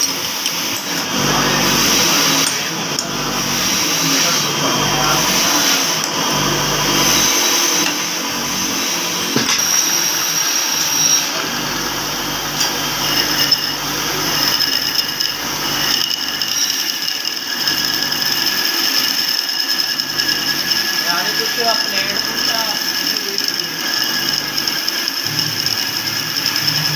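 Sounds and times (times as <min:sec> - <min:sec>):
power tool whining: 0:00.0 - 0:26.9.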